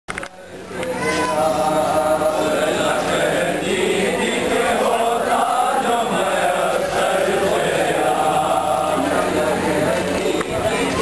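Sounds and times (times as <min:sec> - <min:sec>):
men chanting together: 0:01.1 - 0:11.0.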